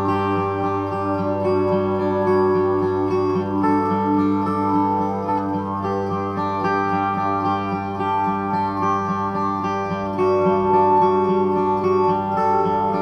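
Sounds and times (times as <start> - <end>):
meditation music with drone: 0.0 - 13.0.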